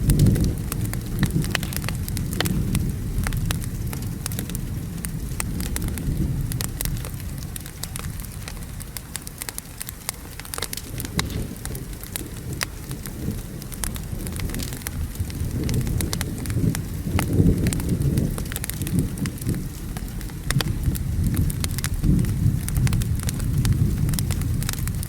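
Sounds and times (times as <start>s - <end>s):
low thunder rumble: 0.0s - 25.0s
steady rain: 0.0s - 25.0s
wood fire crackling: 0.0s - 25.0s.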